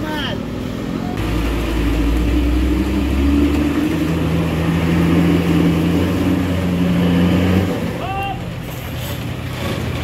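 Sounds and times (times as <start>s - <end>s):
truck diesel engine pulling hard: 0.0s - 10.0s.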